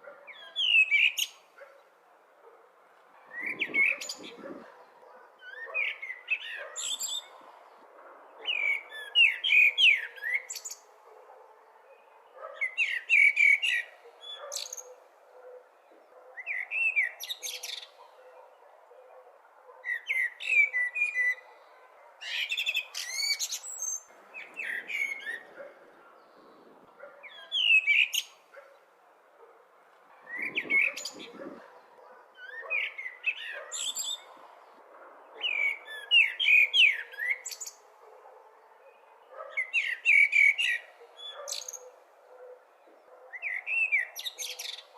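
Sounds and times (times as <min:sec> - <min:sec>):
blackbird singing: 0:00.0 - 0:01.9, 0:03.2 - 0:07.6, 0:08.3 - 0:28.8, 0:30.2 - 0:34.5, 0:35.2 - 0:44.9
faint steady background noise: 0:00.0 - 0:44.9.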